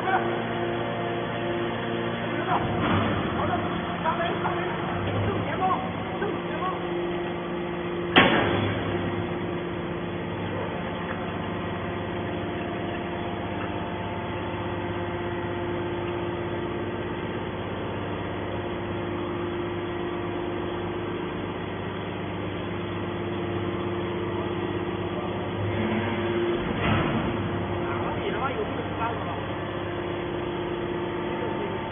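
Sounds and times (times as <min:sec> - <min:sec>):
baler motor humming: 0:00.0 - 0:31.9.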